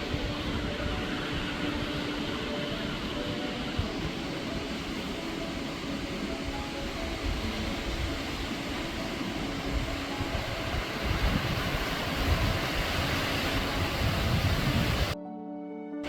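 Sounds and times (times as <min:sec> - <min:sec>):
wind buffeting microphone: 0:00.0 - 0:15.2.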